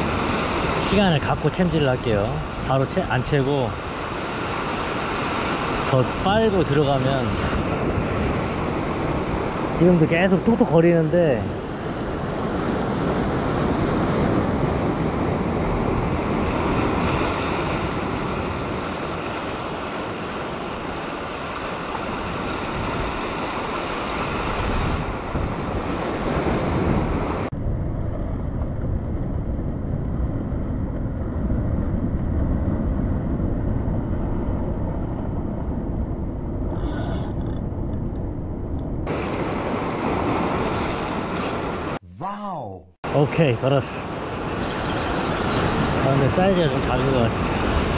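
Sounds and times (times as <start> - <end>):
wind buffeting microphone: 3.7 - 10.6, 11.2 - 42.0, 44.1 - 47.9.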